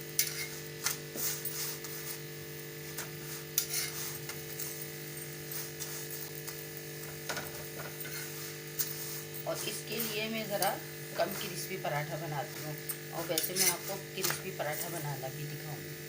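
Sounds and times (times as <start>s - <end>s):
faint sizzling: 0.0s - 16.0s
steady electrical hum: 0.0s - 16.0s
utensil scraping a pan: 0.1s - 6.6s, 7.2s - 15.1s.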